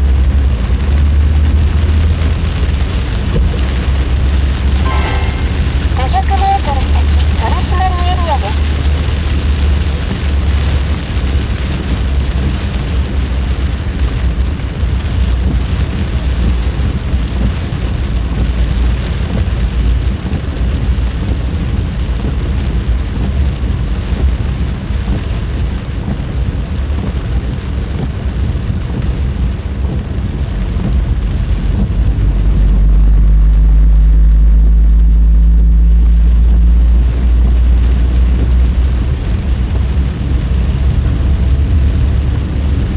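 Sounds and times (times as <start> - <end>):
heavy rain on a car: 0.0 - 5.0, 5.7 - 42.9
low rumble with thin whine: 0.0 - 42.9
road and tyre rumble: 0.0 - 42.9.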